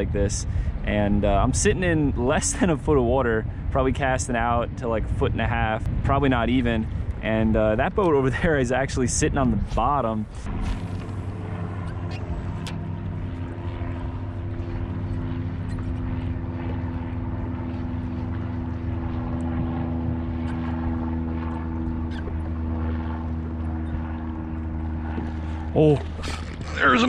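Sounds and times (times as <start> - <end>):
engine drone: 0.0 - 27.0.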